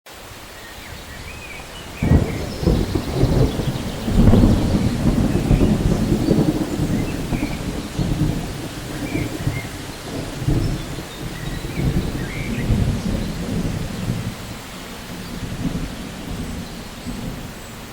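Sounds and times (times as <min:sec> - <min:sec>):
steady rain: 0:00.1 - 0:17.9
rolling thunder: 0:00.9 - 0:17.9.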